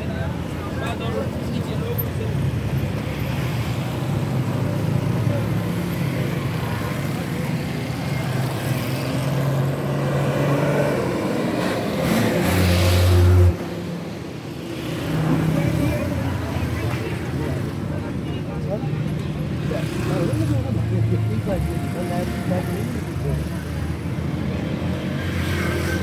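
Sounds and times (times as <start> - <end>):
car and motorcycle engines: 0.0 - 26.0
tyre and road noise: 0.0 - 26.0.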